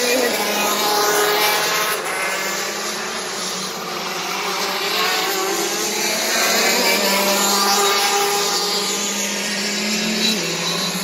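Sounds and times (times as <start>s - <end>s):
go-kart engines racing: 0.0s - 11.0s.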